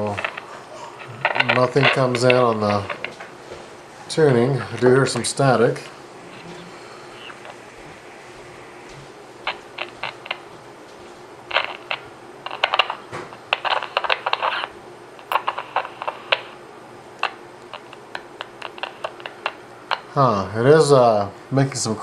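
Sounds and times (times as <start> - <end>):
radio speaker crackling: 0.0 - 16.6, 17.2 - 20.2
static hiss: 0.0 - 22.0.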